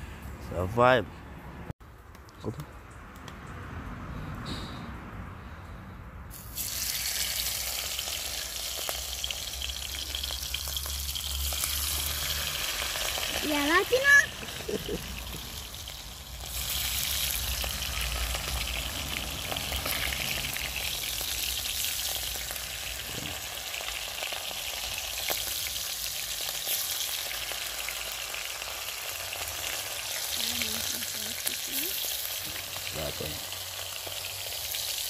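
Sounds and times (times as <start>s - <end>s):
meat frying in hot oil: 6.3s - 35.0s.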